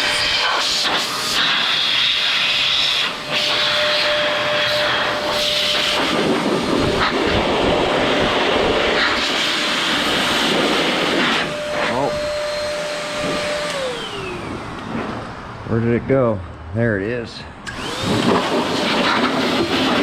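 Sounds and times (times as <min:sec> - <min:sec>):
electric blower air rush: 0:00.0 - 0:16.0, 0:17.5 - 0:20.0.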